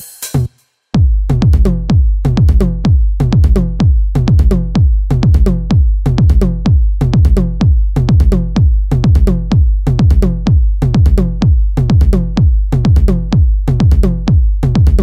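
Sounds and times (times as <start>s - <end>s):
drum-machine beat: 0.0s - 15.0s
deep bass: 0.4s - 15.0s.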